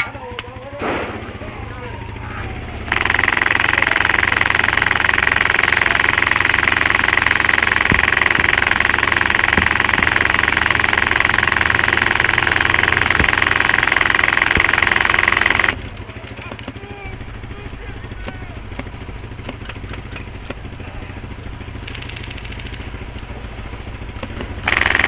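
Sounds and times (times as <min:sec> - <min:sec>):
atv engine running steadily: 0:01.5 - 0:25.0.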